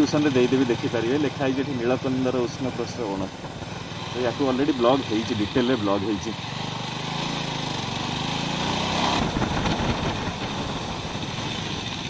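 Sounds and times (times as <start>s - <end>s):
motorcycle engine running: 0.0s - 12.0s
road noise rushing: 0.0s - 12.0s.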